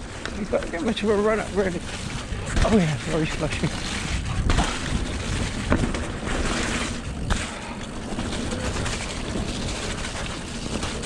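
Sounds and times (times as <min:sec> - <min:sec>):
bike tyres through slushy mud: 0:00.0 - 0:11.0
bike knocking over bumps: 0:00.1 - 0:11.0
wind on microphone: 0:01.4 - 0:11.0.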